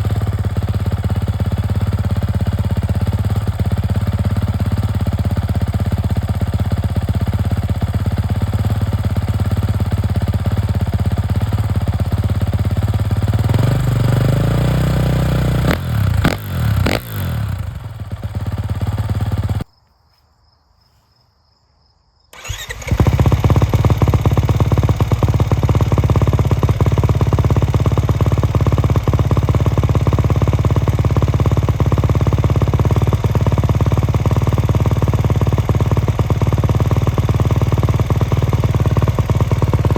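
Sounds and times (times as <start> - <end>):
dirt bike engine idling: 0.0 - 19.6, 22.3 - 39.9.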